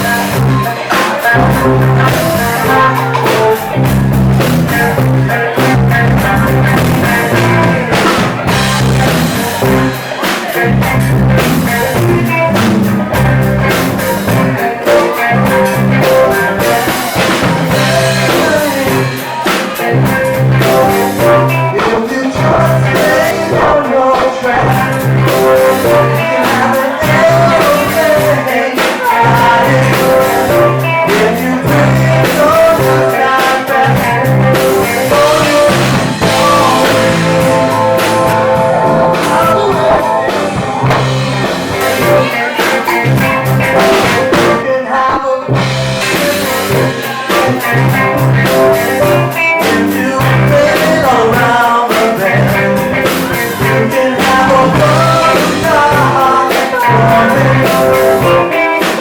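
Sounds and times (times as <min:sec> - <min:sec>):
bass guitar: 0:00.0 - 0:59.0
drum kit: 0:00.0 - 0:59.0
electric guitar: 0:00.0 - 0:59.0
person singing: 0:00.0 - 0:59.0.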